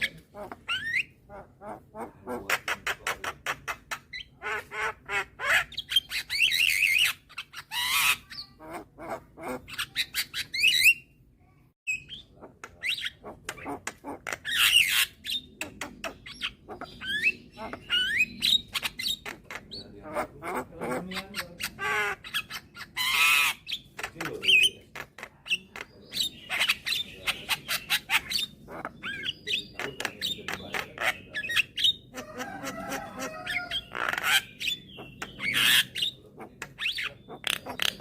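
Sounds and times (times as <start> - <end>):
myna bird singing: 0.0 - 38.0.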